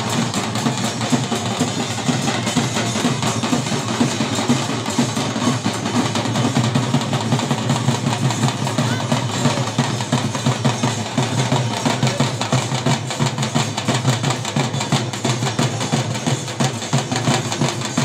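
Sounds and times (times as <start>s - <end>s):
barrel drums beating fast rhythm: 0.0s - 18.0s.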